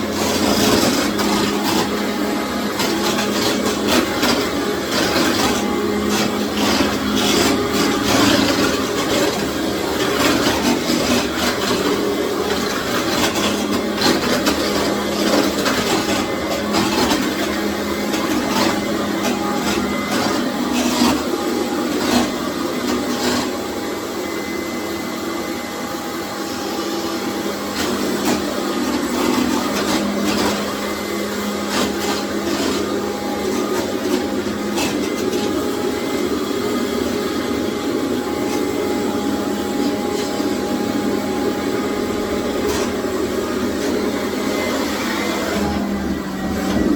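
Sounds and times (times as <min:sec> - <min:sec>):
clicks and scrapes on tiles: 0:00.0 - 0:23.7, 0:27.6 - 0:46.9
vacuum cleaner motor hum: 0:00.0 - 0:46.9.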